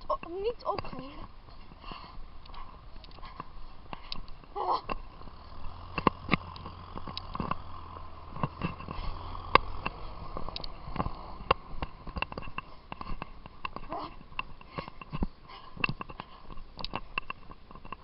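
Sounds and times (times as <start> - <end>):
runner breathing: 1.0 - 18.0.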